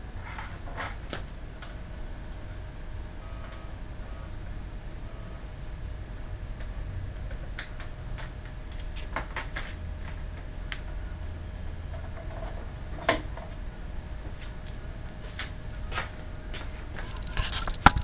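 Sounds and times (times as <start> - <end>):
computer fan hum: 0.0 - 18.0.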